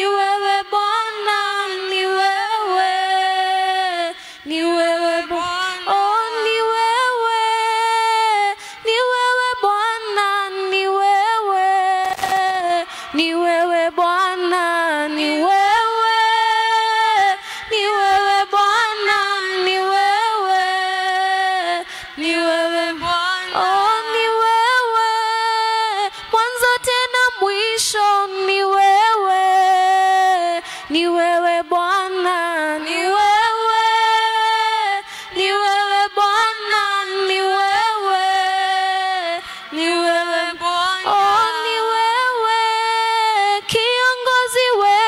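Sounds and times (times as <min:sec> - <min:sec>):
woman singing unaccompanied: 0:00.0 - 0:45.0.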